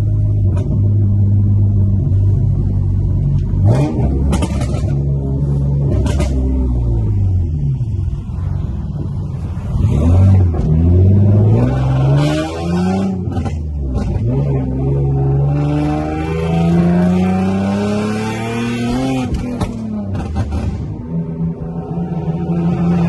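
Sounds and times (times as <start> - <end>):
car engine accelerating hard: 0.0 - 8.0, 9.6 - 23.0.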